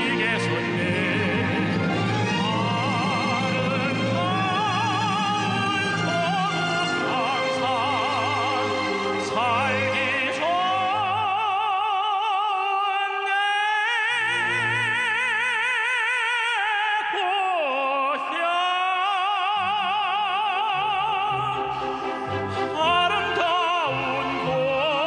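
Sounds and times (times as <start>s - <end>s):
musical accompaniment: 0.0s - 15.8s, 18.5s - 25.0s
operatic voice singing: 0.0s - 25.0s.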